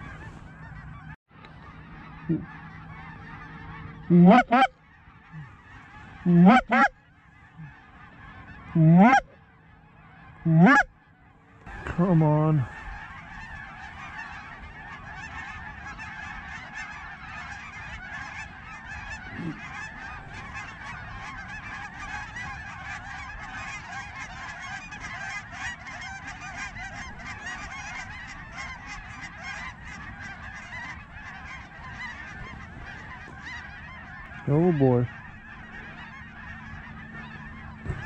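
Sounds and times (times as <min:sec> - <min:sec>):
geese honking: 0:00.0 - 0:38.0.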